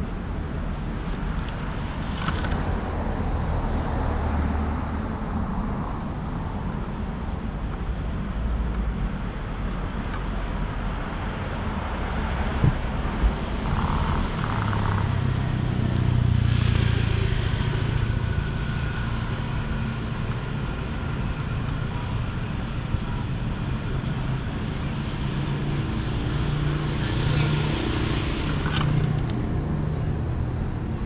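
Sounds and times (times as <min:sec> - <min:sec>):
traffic rumble: 0:00.0 - 0:31.0
vehicles passing: 0:00.0 - 0:31.0.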